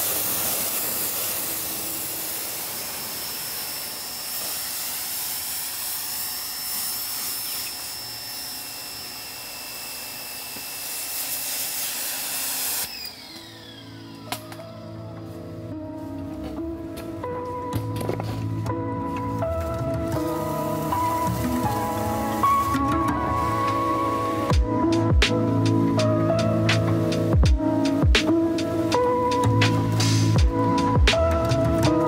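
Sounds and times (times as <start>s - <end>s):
machine whining and hissing: 0.0s - 16.0s, 19.0s - 32.0s.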